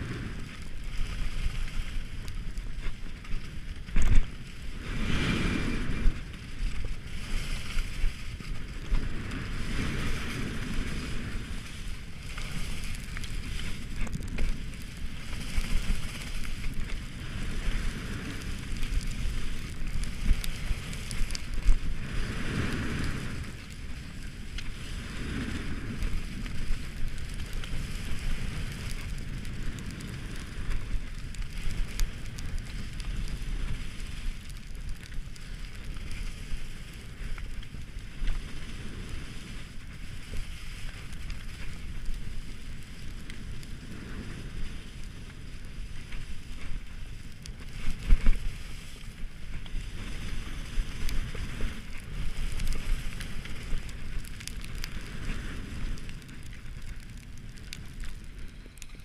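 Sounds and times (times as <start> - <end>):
skis scraping over snow: 0.0 - 59.0.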